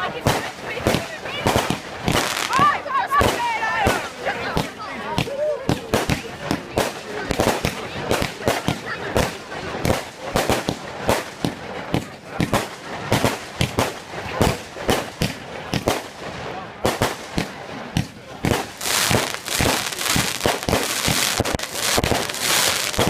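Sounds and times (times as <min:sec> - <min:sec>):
fireworks banging: 0:00.0 - 0:23.0
fireworks crackling: 0:00.0 - 0:23.0.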